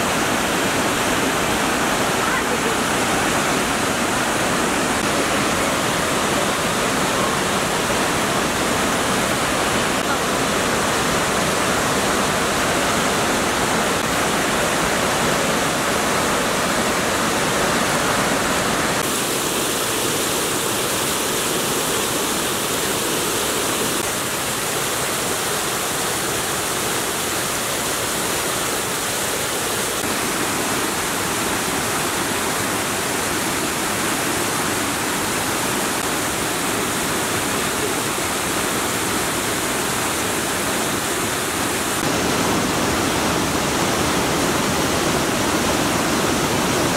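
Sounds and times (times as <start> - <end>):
waterfall rushing over rock: 0.0 - 46.9.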